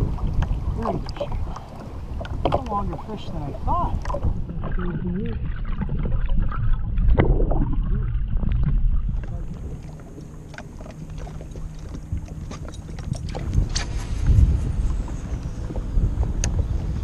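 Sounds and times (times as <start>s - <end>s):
knocks and splashes: 0.0s - 17.0s
light wind: 0.0s - 17.0s
water sloshing and gurgling: 0.0s - 17.0s.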